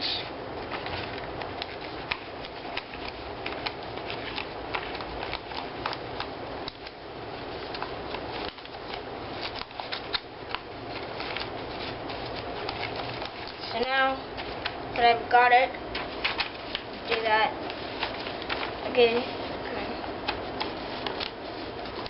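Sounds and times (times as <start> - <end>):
paper crinkling: 0.6 - 15.1, 15.9 - 22.0.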